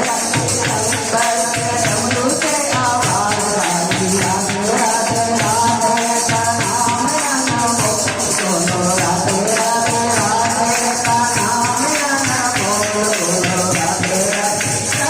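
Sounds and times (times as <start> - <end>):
jingling percussion: 0.0 - 15.0
person singing a melody: 0.0 - 15.0.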